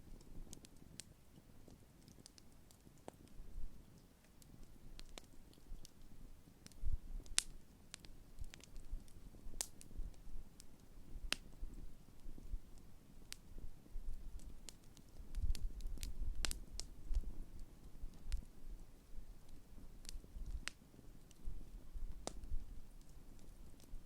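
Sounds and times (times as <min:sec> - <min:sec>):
burning wood popping: 0:00.0 - 0:24.0
low rumble of flames: 0:00.0 - 0:24.0.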